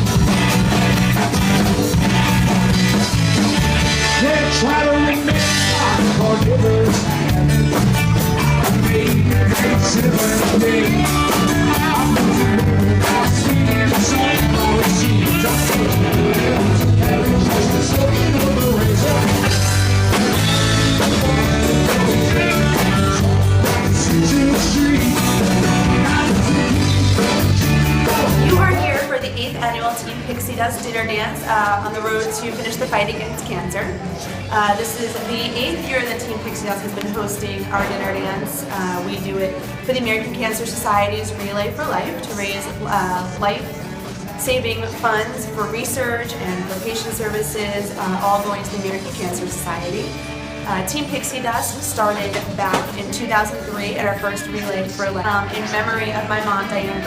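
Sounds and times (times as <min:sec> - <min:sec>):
rock music with singing: 0:00.0 - 0:57.0.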